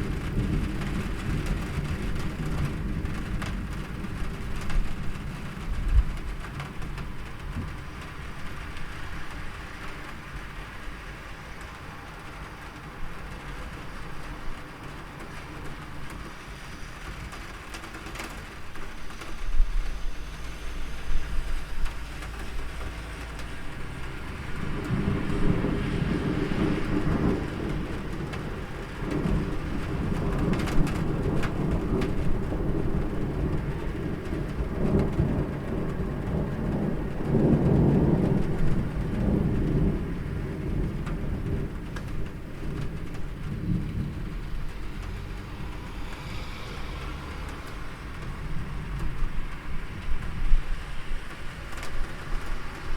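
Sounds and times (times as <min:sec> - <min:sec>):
rolling thunder: 0:00.0 - 0:08.9, 0:11.7 - 0:50.8
steady rain: 0:00.0 - 0:52.9.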